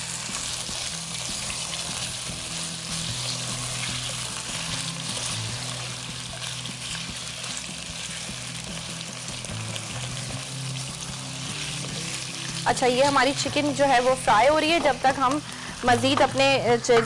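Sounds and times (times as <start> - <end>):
chicken sizzling in hot oil: 0.0 - 16.6
low background music: 0.0 - 17.0
spatula stirring in wok: 0.1 - 15.9.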